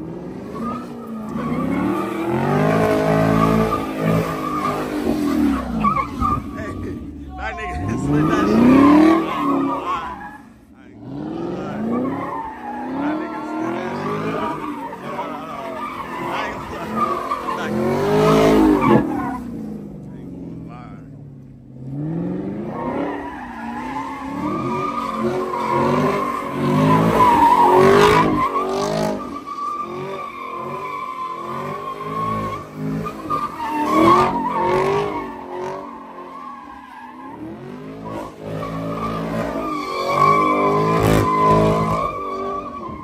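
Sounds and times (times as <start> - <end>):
tires squealing on wet pavement: 0.0 - 19.8, 22.0 - 43.0
car engines revving: 0.0 - 43.0.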